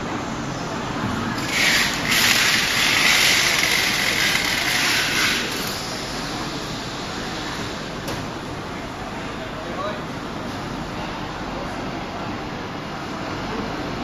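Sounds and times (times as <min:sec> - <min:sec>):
machine and hall noise: 0:00.0 - 0:14.0.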